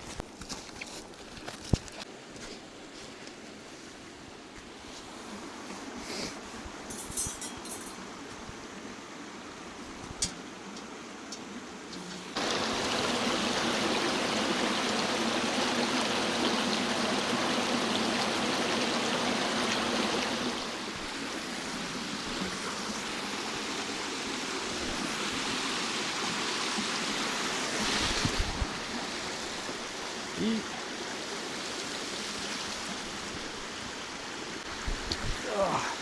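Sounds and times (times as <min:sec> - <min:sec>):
creek water rushing: 0:04.2 - 0:36.0.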